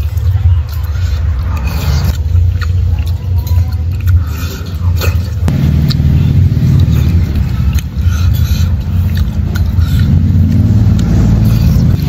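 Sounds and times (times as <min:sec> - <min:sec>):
low machine rumble: 0:00.0 - 0:12.0.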